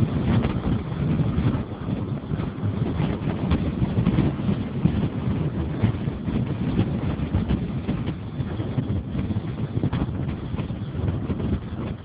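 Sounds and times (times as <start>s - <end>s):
vehicle low rumble: 0.0s - 12.0s
wind buffeting microphone: 0.0s - 12.0s.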